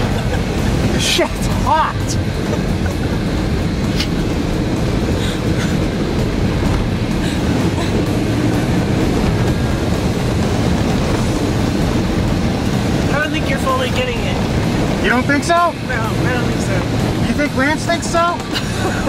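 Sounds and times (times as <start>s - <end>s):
body rattles and knocks: 0.0s - 15.4s
engine and road noise: 0.0s - 19.0s.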